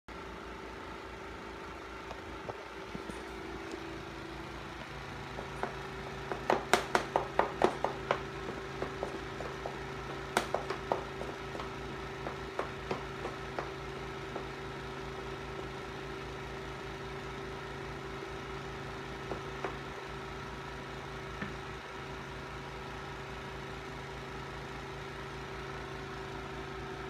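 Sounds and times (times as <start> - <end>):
appliance humming with low pulse: 0.1 - 27.0.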